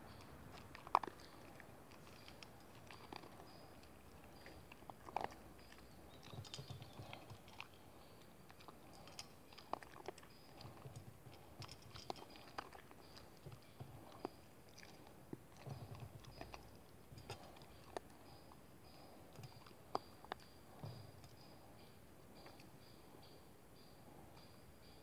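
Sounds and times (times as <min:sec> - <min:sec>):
dog crunching dry kibble: 0:00.1 - 0:21.3.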